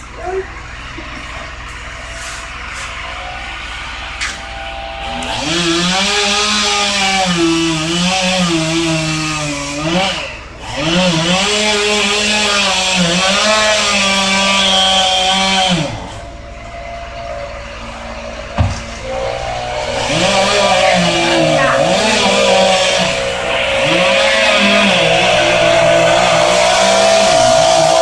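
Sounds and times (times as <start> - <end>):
chainsaw cutting wood: 2.4 - 17.0, 17.6 - 28.0.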